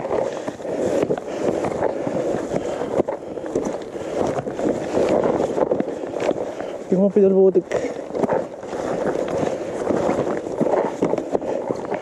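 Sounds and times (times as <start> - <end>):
bike tyres rumbling on gravel: 0.0 - 12.0
wheels knocking on rocks: 0.0 - 12.0
wind buffeting microphone: 0.0 - 12.0.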